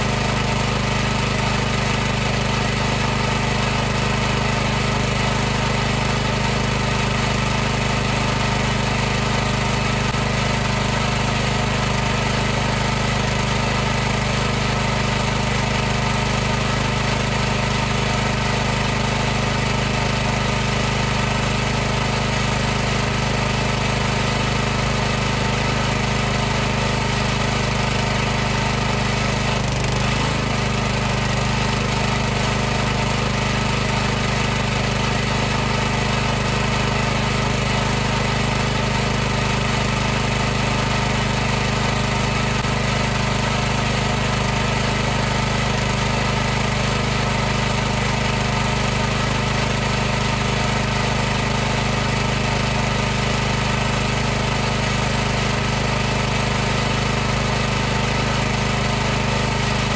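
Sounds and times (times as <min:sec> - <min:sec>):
pressure washer motor running: 0:00.0 - 0:59.9.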